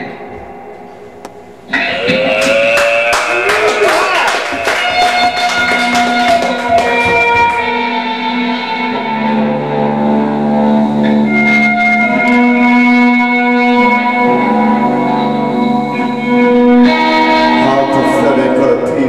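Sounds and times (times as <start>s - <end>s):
electric guitar sustained notes: 0.0s - 19.0s.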